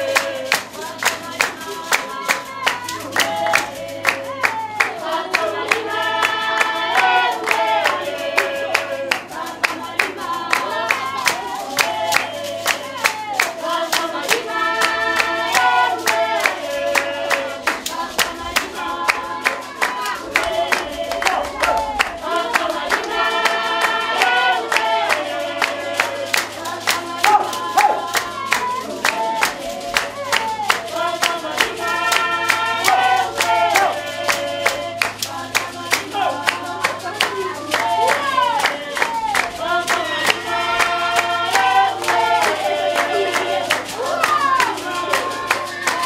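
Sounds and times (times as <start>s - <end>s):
group of voices singing: 0.0s - 46.0s
rhythmic hand-clapping: 0.0s - 46.0s.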